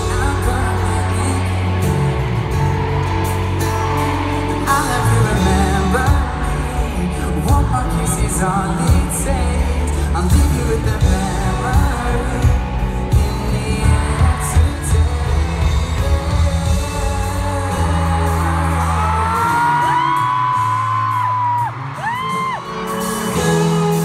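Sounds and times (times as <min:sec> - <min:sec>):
bass: 0:00.0 - 0:24.0
person singing: 0:00.0 - 0:24.0.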